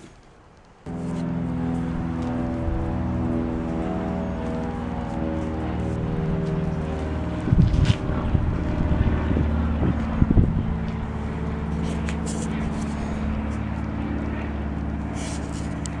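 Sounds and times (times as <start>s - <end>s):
small engine idling: 0.9s - 16.0s.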